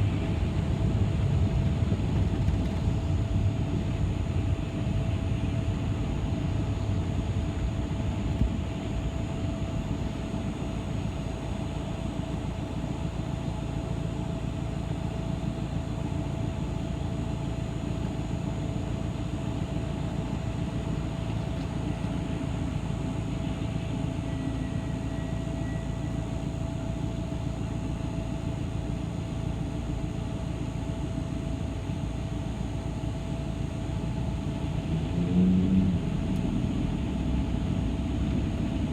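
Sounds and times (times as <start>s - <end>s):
bus engine and road rumble: 0.0s - 38.9s
constant droning tone: 0.0s - 38.9s.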